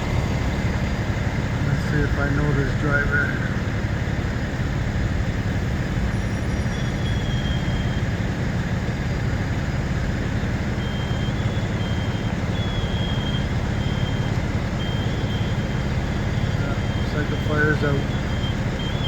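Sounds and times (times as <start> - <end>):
truck engines idling: 0.0 - 19.0.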